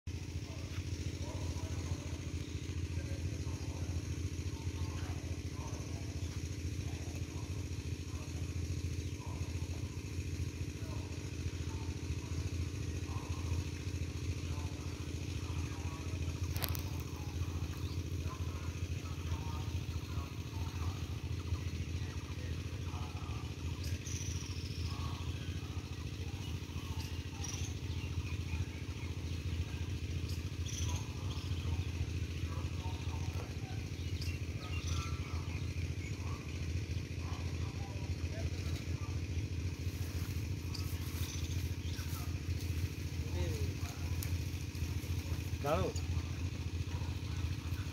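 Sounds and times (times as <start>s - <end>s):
low engine-like hum: 0.1s - 47.9s.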